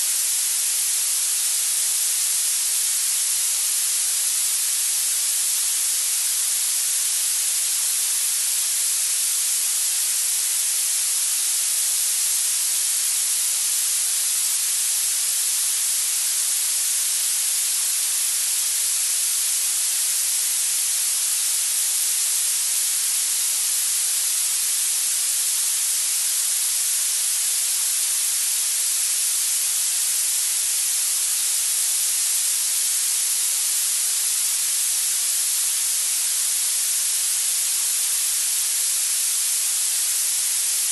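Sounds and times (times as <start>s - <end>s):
steady synthetic hiss: 0.0s - 40.9s.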